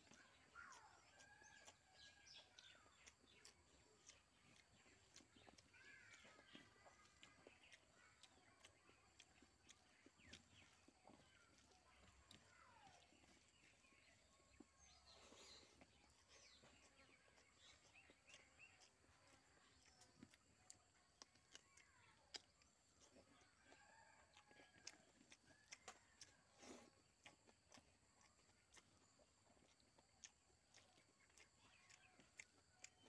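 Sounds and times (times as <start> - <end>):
birds chirping: 0.0 - 26.8
eating by hand clicks and smacks: 0.0 - 33.0.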